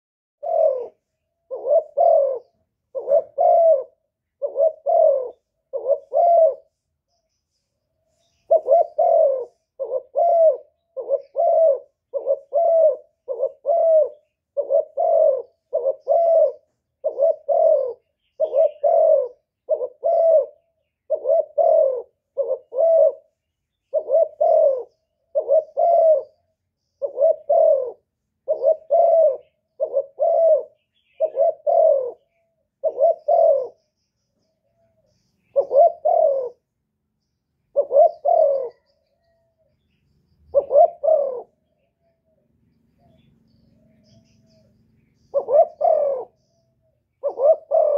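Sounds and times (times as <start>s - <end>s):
dove cooing: 0.4s - 6.8s, 8.1s - 36.7s, 37.6s - 47.9s.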